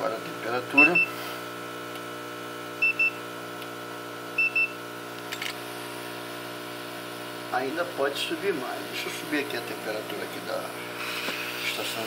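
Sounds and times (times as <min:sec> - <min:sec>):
rework station hum: 0:00.0 - 0:12.0.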